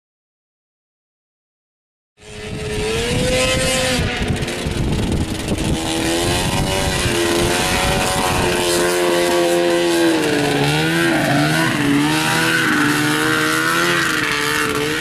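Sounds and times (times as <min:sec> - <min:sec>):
snowmobile engine revving: 0:02.2 - 0:15.0.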